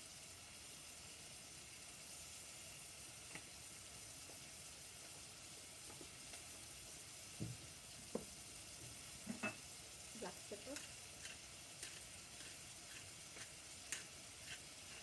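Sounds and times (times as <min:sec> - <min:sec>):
food sizzling in butter: 0:00.0 - 0:15.0.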